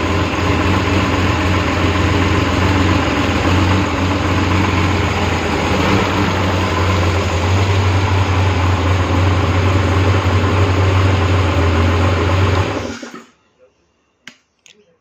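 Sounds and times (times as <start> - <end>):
car engine running steadily: 0.0 - 12.9.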